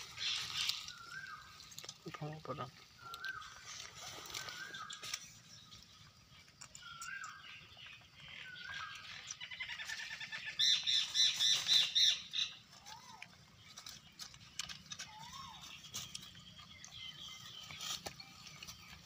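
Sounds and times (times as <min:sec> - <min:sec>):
bird high chirps: 0:03.0 - 0:19.0.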